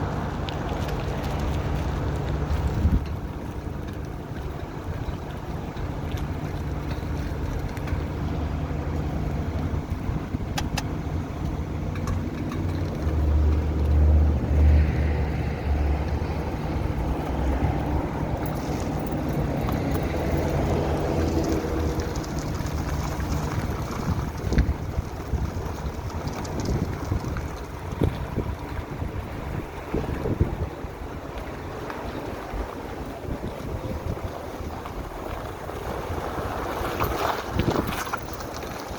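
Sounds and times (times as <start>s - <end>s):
car engine running: 0.0s - 38.9s
low rumbling from front wheels: 0.0s - 38.9s.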